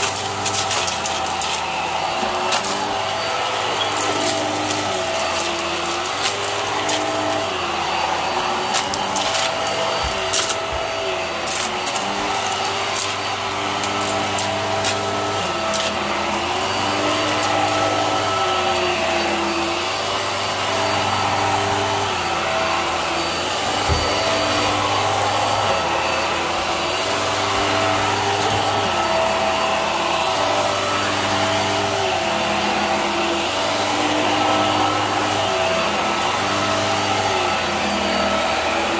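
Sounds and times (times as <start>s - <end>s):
stick vacuum running on carpet: 0.0s - 38.9s.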